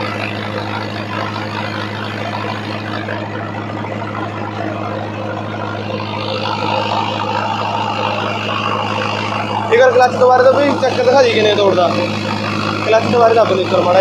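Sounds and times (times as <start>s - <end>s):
rotavator tilling soil: 0.0s - 14.0s
tractor diesel engine running: 0.0s - 14.0s.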